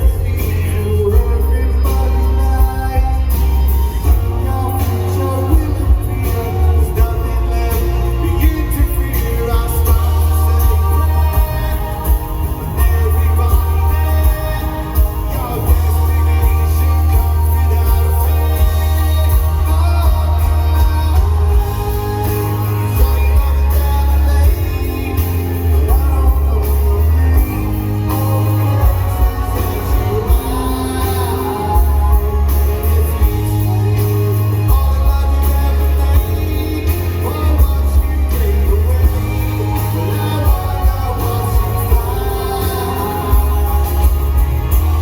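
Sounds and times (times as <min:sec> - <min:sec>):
live rock band playing: 0:00.0 - 0:45.0
person singing: 0:00.0 - 0:45.0.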